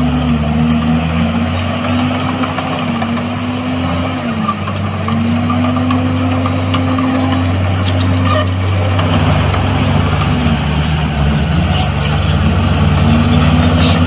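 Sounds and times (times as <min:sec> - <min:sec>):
heavy machinery diesel engine: 0:00.0 - 0:14.0.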